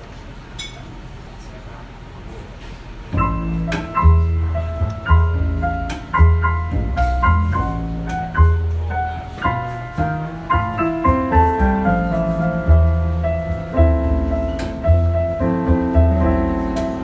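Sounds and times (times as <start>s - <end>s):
jazz piano chords and melody: 3.1s - 17.0s
deep bass notes: 3.2s - 17.0s.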